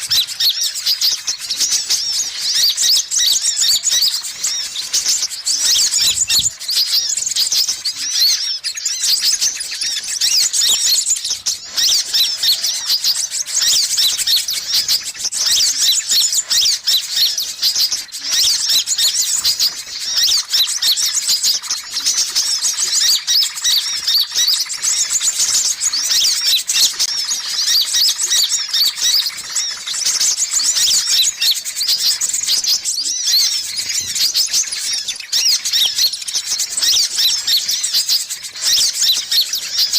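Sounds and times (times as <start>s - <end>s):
sunbirds chirping and twittering: 0.0s - 39.9s.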